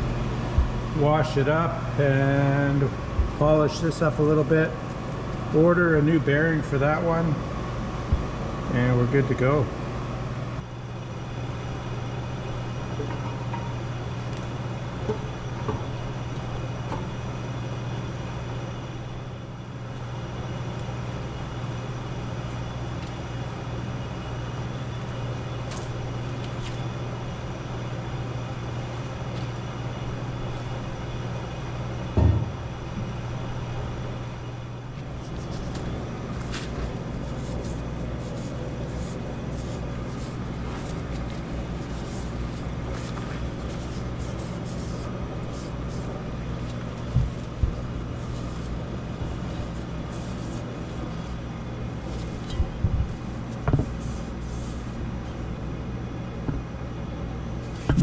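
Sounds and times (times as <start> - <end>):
machine humming: 0.0 - 58.0.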